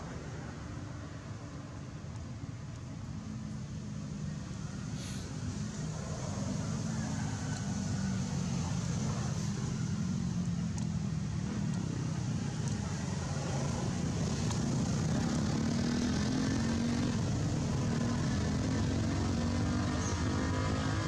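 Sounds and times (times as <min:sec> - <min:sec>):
engine drone: 0:04.0 - 0:21.0.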